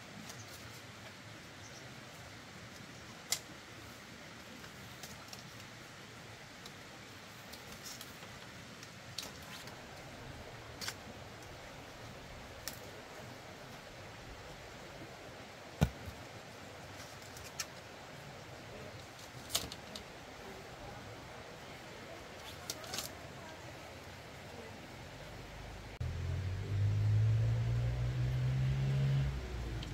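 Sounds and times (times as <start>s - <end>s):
faint steady hiss: 0.0s - 29.9s.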